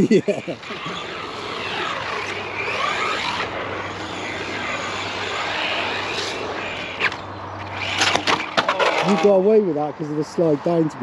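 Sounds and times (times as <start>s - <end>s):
electric motor whining: 0.0s - 9.4s.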